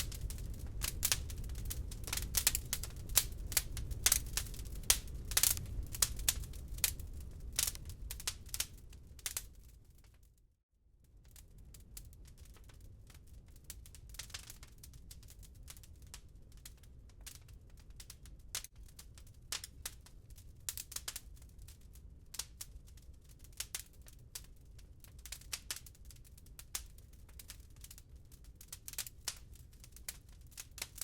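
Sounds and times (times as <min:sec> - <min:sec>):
wood fire crackling: 0:00.0 - 0:10.4, 0:11.1 - 0:31.0
low rumble of flames: 0:00.0 - 0:31.0.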